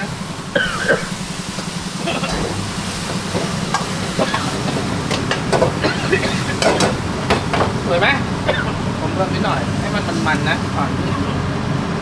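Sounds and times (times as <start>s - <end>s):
light sizzling: 0.0s - 11.7s
gas burner hum: 0.0s - 12.0s.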